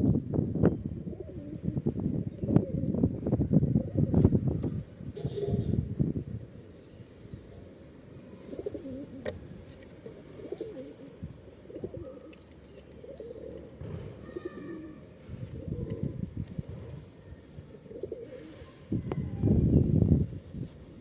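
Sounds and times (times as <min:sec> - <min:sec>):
pigeons cooing: 0:01.0 - 0:03.0, 0:03.6 - 0:07.7, 0:08.3 - 0:19.6.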